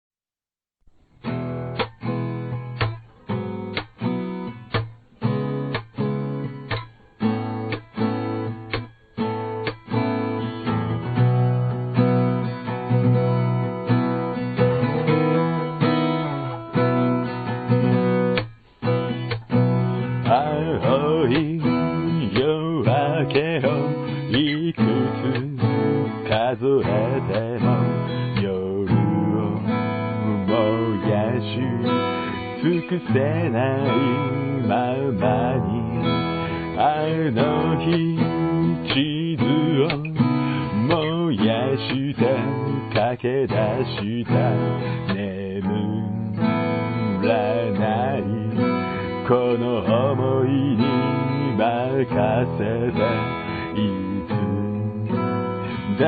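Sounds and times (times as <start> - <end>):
acoustic guitar strumming chords: 1.2 - 56.0.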